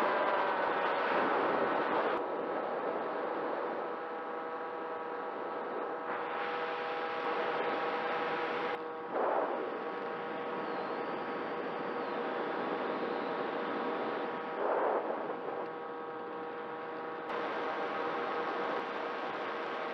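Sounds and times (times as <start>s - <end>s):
model plane motor and propeller: 0.0s - 19.9s
rushing wind: 0.0s - 19.9s.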